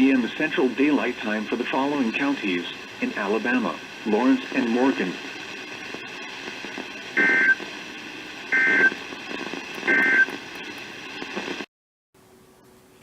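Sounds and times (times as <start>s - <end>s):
radio receiver hiss: 0.0s - 11.7s
faint hum: 0.0s - 13.0s.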